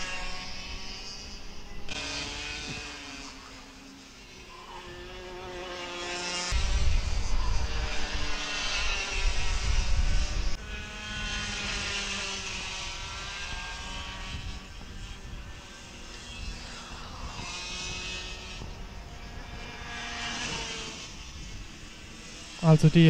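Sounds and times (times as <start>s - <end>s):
kart engines buzzing: 0.0s - 23.0s.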